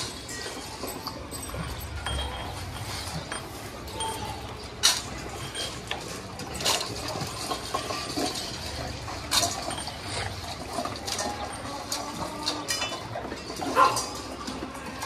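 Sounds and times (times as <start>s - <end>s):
dogs eating dry kibble: 0.0s - 15.0s
metal dog bowls clinking on tiles: 0.0s - 15.0s.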